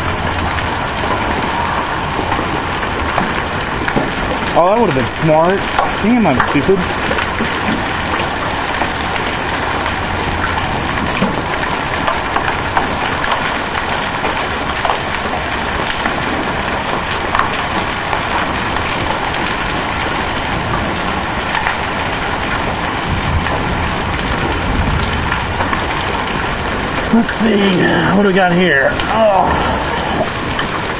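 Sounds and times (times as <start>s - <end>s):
hail clattering on hard surfaces: 0.0s - 30.9s.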